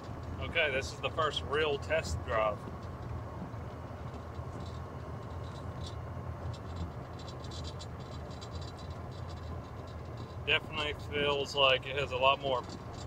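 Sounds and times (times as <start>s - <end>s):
electric golf cart driving: 0.0s - 13.0s
light rattling and ticking: 0.0s - 13.0s.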